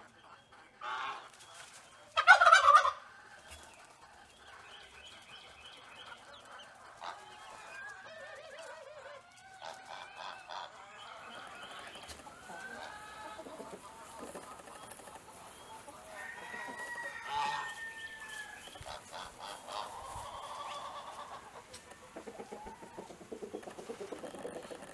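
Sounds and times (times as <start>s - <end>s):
chickens clucking and calling: 0.0s - 24.9s.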